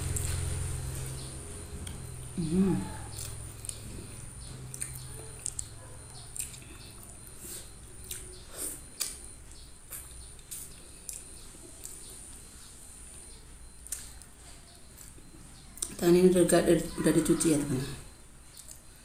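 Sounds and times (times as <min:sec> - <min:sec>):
chewing: 0:00.0 - 0:16.0, 0:18.4 - 0:19.0.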